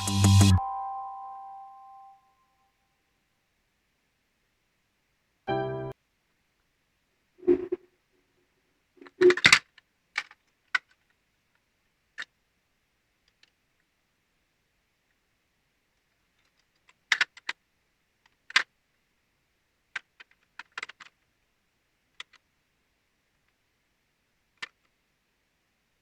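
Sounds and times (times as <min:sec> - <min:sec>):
faint steady hiss: 0:01.3 - 0:26.0.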